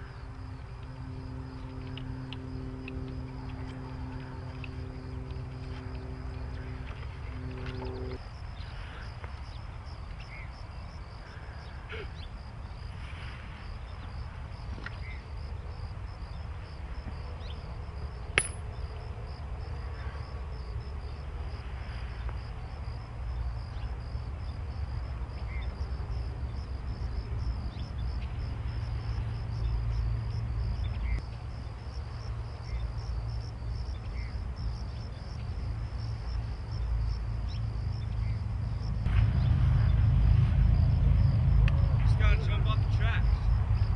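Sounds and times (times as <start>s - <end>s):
insects trilling: 0.0s - 43.9s
low outdoor rumble: 0.0s - 43.9s.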